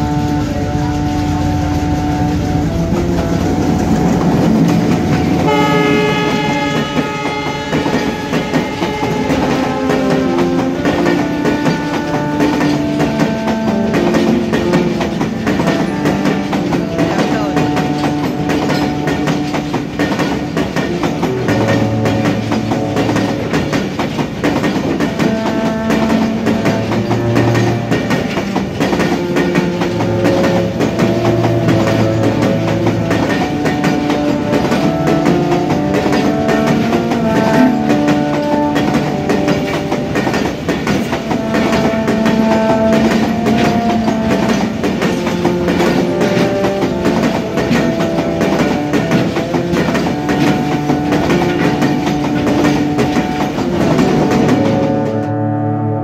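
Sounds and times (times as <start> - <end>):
train wheels clattering over rail joints: 0.0 - 55.3.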